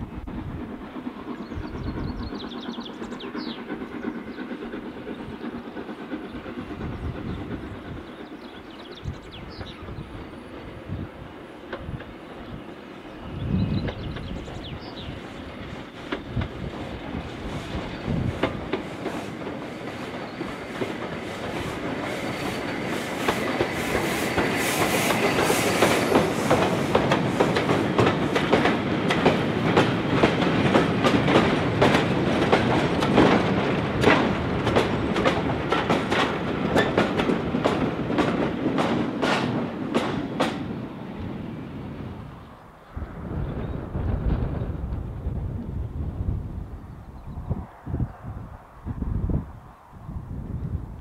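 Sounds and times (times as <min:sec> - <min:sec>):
steam locomotive passing: 0:00.0 - 0:51.0.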